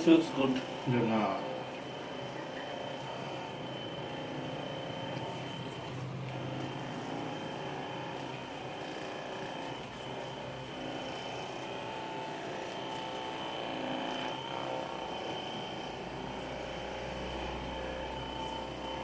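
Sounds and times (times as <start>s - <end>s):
massage gun motor humming: 0.0s - 19.0s.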